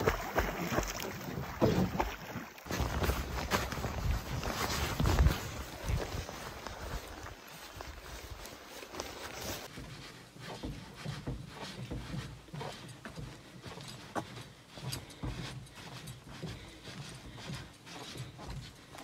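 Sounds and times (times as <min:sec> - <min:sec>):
footsteps on a trail: 0:00.0 - 0:19.0.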